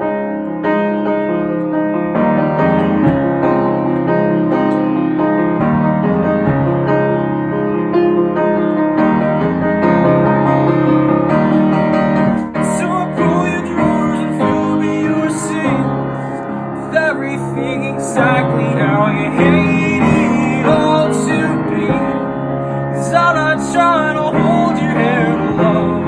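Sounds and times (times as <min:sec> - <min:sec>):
piano playing sustained chords: 0:00.0 - 0:26.0.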